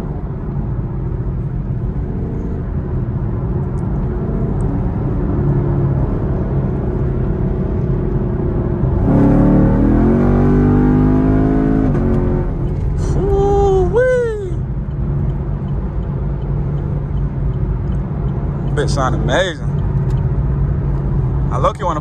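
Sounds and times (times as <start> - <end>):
car engine cruising and accelerating: 0.0 - 22.0.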